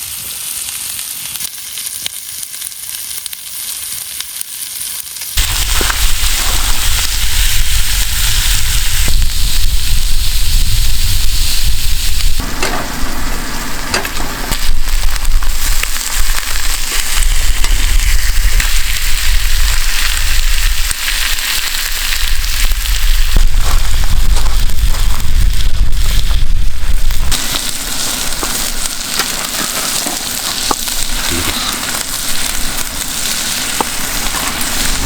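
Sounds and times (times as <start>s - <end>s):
food sizzling in a pan: 0.0s - 35.0s
low rumble: 5.4s - 35.0s.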